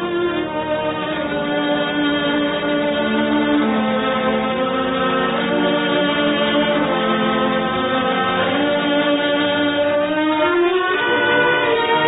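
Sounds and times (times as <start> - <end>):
orchestral music with held chords: 0.0 - 12.0.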